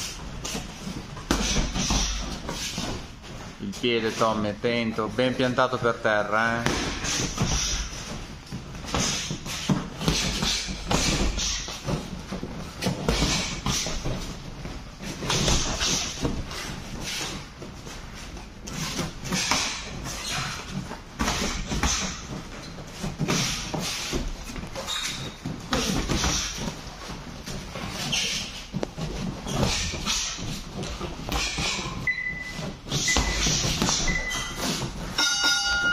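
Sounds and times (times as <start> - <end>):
boxing gloves thudding: 0.0 - 3.4, 6.5 - 35.9
bare feet shuffling on mat: 0.0 - 35.9.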